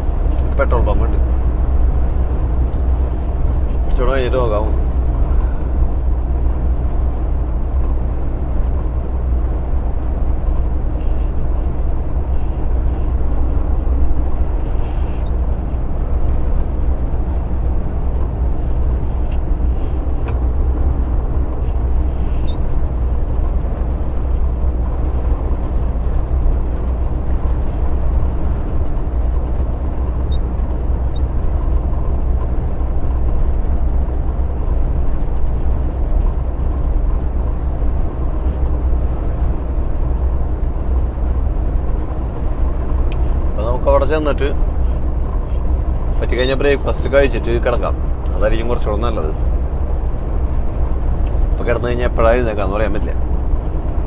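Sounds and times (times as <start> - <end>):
truck engine and tyre rumble: 0.0 - 54.0.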